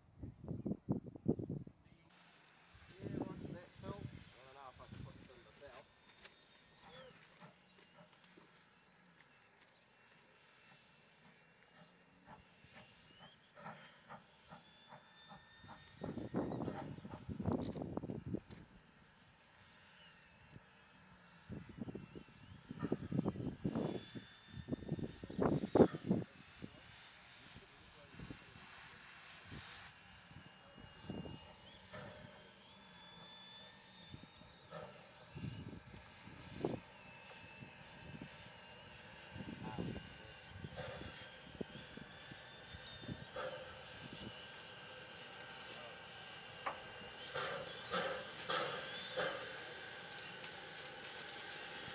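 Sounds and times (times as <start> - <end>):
steam locomotive exhaust chuffs: 2.3 - 51.9.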